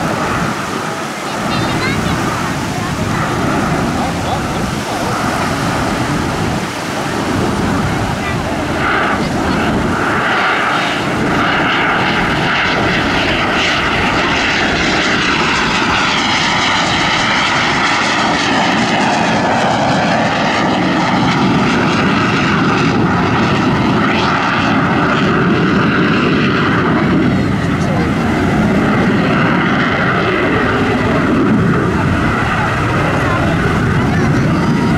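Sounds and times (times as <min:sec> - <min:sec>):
jet engine in flight: 0:00.0 - 0:34.9.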